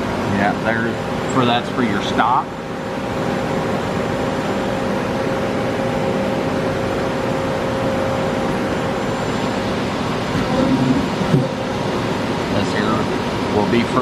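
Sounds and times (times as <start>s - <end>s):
lathe running with hum and hiss: 0.0s - 14.0s
machine whine: 0.0s - 14.0s.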